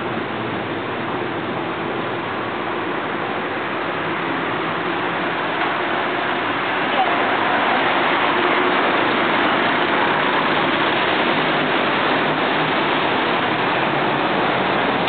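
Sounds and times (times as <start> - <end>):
low engine hum: 0.0 - 15.0
street noise hiss: 0.0 - 15.0.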